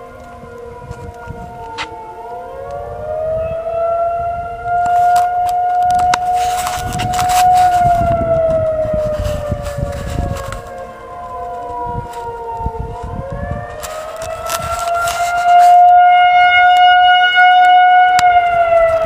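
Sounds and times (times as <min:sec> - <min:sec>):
tornado sirens wailing: 0:00.0 - 0:19.0.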